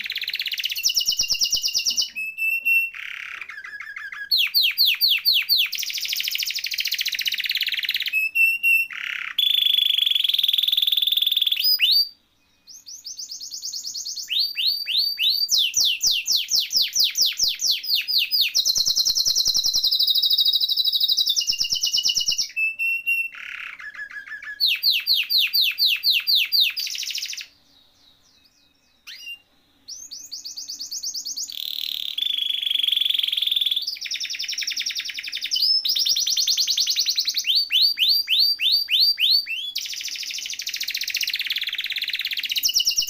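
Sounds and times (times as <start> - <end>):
canary singing: 0.0 - 43.0.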